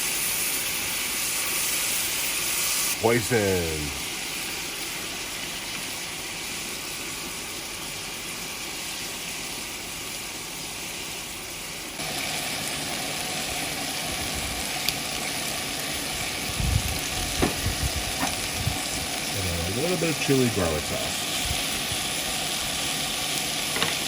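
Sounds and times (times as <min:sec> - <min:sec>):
chicken wings sizzling in sauce: 0:00.0 - 0:24.0.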